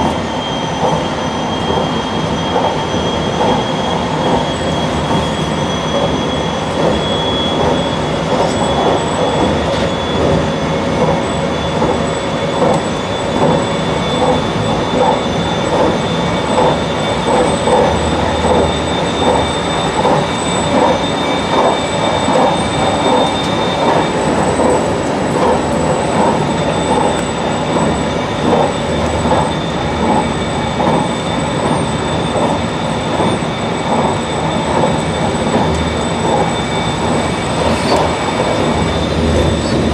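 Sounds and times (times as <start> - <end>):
high whine: 0.0 - 39.9
train wheels clattering: 0.0 - 39.9
train wheels rumbling on rails: 0.0 - 39.9.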